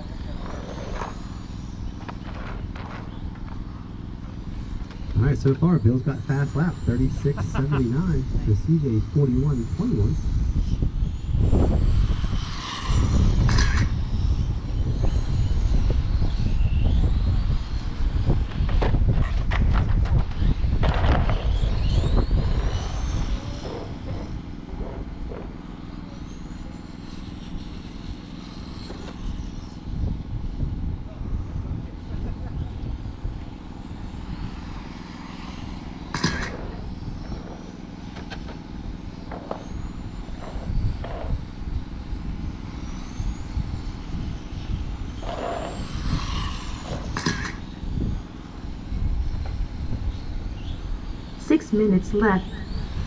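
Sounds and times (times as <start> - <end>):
rc car motors whining: 0.0 - 53.0.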